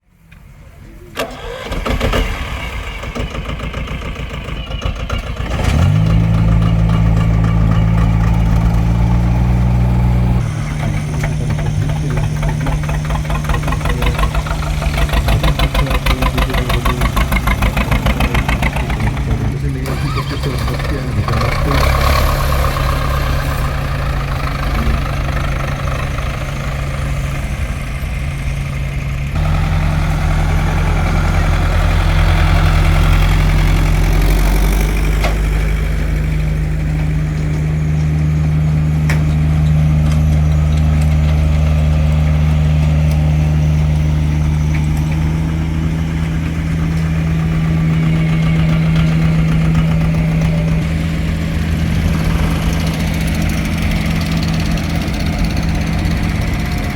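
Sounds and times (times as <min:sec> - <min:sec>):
tractor engine idling: 0:00.0 - 0:56.9.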